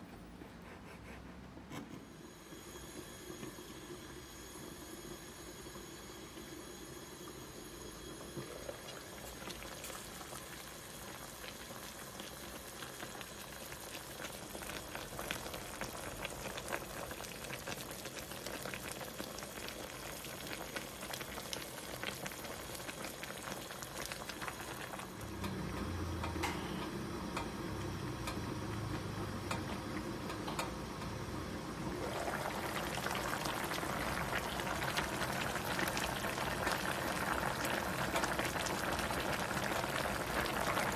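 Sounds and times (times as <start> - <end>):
broth bubbling at a boil: 3.2 - 40.9.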